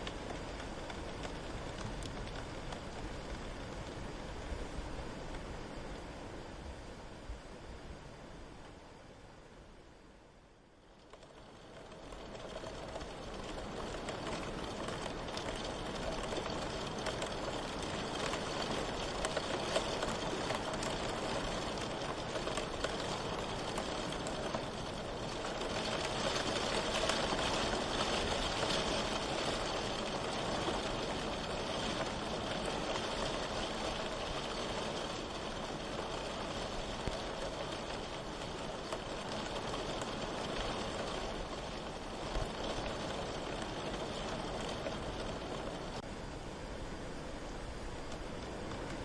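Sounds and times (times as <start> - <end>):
rain drop ticks: 0.0 - 4.0, 10.8 - 46.1, 48.0 - 49.0
steady rain hiss: 0.0 - 49.0.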